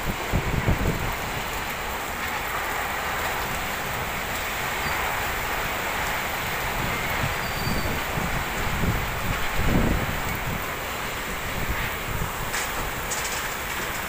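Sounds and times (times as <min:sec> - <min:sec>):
wind buffeting microphone: 0:00.0 - 0:02.3, 0:03.0 - 0:14.0
heavy rain hissing: 0:00.0 - 0:14.0.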